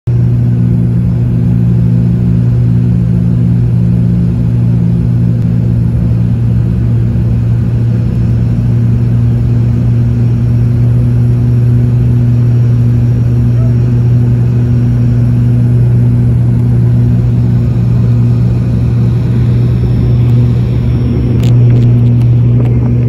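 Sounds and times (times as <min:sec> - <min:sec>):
turboprop cabin drone: 0:00.0 - 0:23.0.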